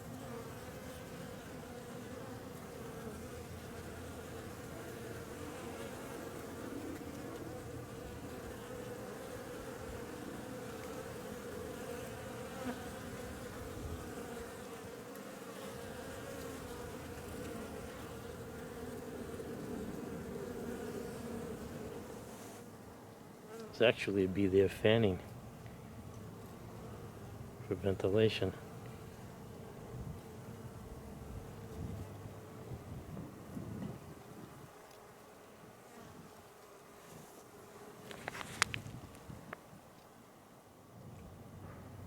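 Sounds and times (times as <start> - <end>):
honeybees buzzing: 0.0 - 39.7.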